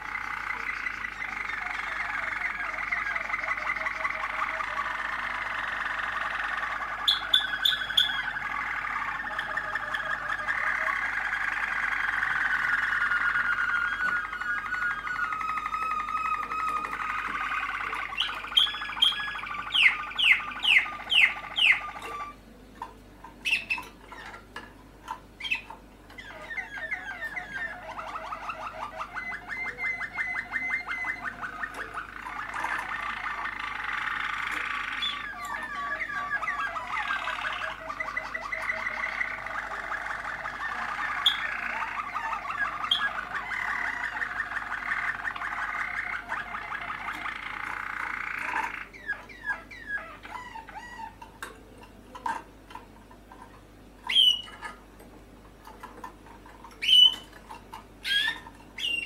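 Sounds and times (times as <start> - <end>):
canaries singing trills: 0.0 - 59.0.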